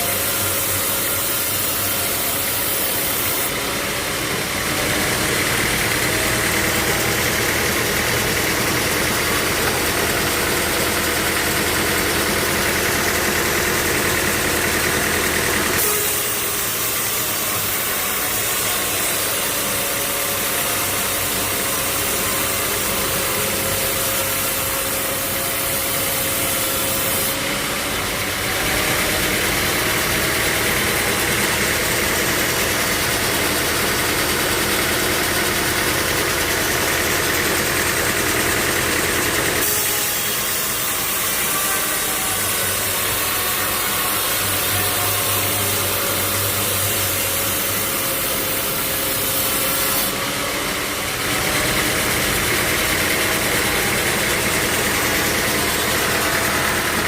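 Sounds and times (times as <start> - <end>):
sawmill machinery engine running: 0.0 - 57.0.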